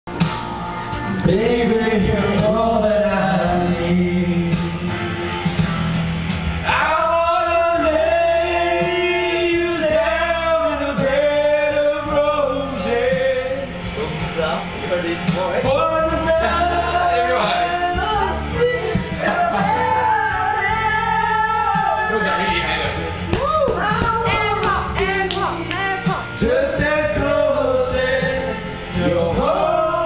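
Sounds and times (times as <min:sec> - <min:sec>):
music backing track: 0:00.0 - 0:30.0
man singing karaoke: 0:01.1 - 0:05.5, 0:06.6 - 0:14.4, 0:15.0 - 0:30.0.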